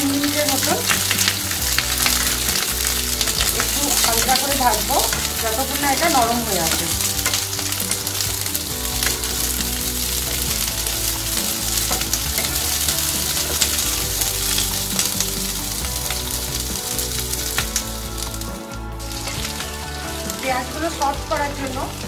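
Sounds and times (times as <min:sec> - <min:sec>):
spatula scraping and tapping pan: 0:00.0 - 0:21.3
onion sizzling in hot oil: 0:00.0 - 0:22.0.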